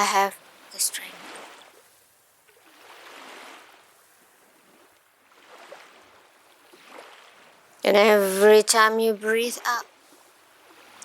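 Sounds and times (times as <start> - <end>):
ocean waves washing on shore: 0.0 - 11.0.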